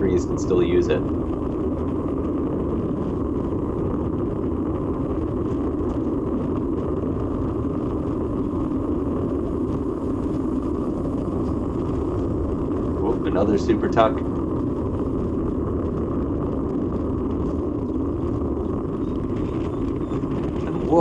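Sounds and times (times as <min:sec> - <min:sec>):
bicycle tyre noise: 0:00.0 - 0:21.0
wind rushing over microphone: 0:00.0 - 0:21.0.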